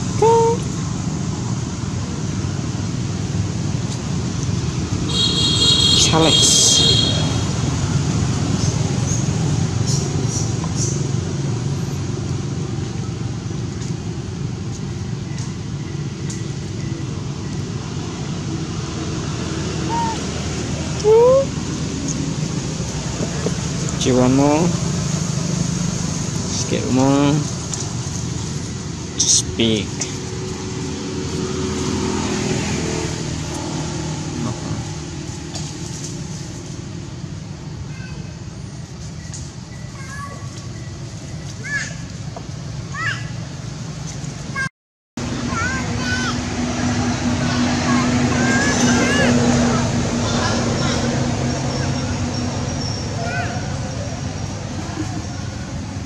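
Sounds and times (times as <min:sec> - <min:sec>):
motor vehicle engine running: 0:07.2 - 0:44.5, 0:45.2 - 0:56.0.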